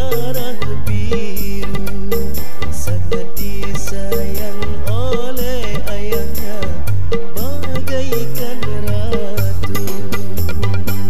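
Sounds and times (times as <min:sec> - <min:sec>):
drum beat: 0:00.0 - 0:11.0
steady bass: 0:00.0 - 0:11.0
wavering melody: 0:00.0 - 0:11.0.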